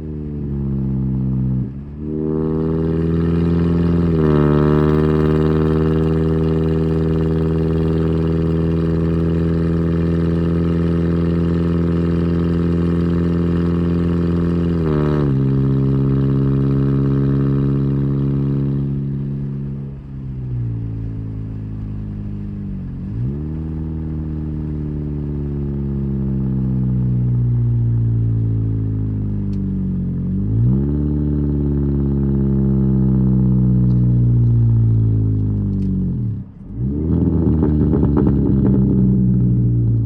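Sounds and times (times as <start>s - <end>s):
exhaust crackles: 1.1s - 40.0s.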